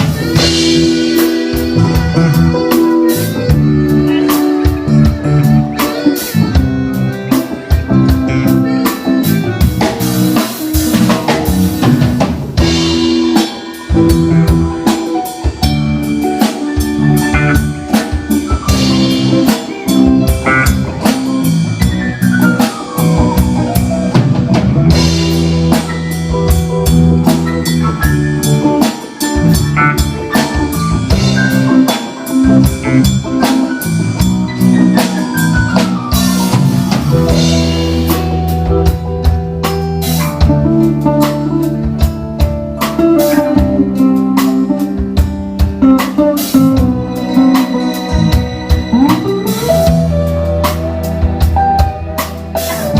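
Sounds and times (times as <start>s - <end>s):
drum kit steady beat: 0.0s - 52.9s
guitar with sliding lines: 0.0s - 52.9s.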